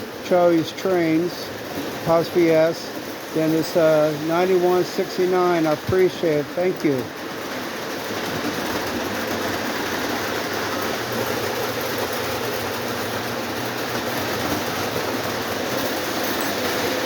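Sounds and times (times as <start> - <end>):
wheels running on track: 0.0 - 17.0
electric motors humming: 1.4 - 17.0.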